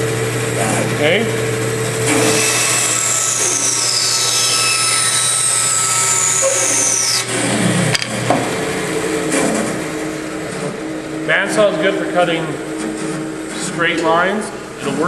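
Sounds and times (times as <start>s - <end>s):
band saw running: 0.0s - 15.0s.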